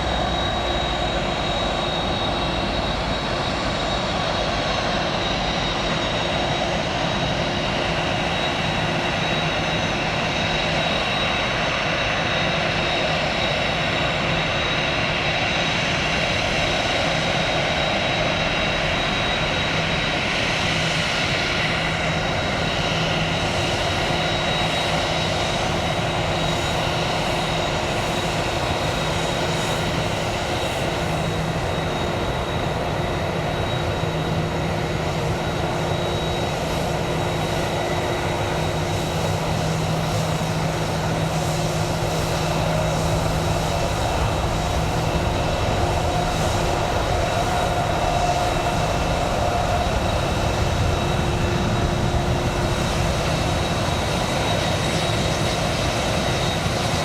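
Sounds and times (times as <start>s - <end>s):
high-pitched engine whine: 0.0s - 57.0s
jet engines rushing: 0.0s - 57.0s.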